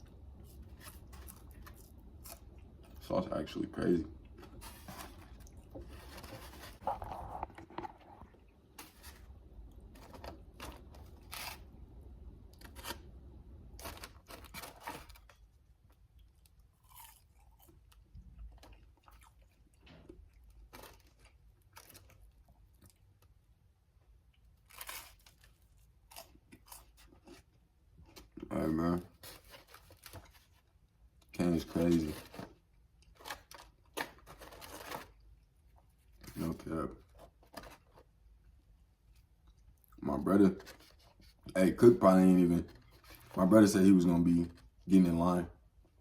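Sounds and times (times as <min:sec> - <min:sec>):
crunching fried chicken: 0:00.0 - 0:38.2.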